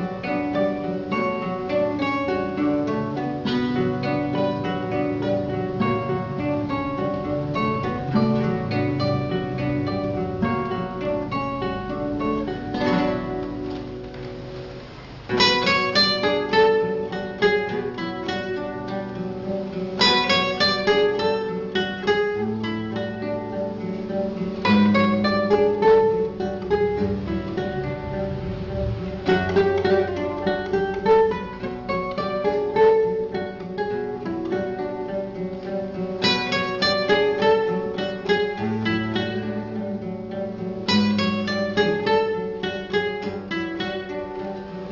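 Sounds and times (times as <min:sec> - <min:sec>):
acoustic guitar music: 0:00.0 - 0:44.9.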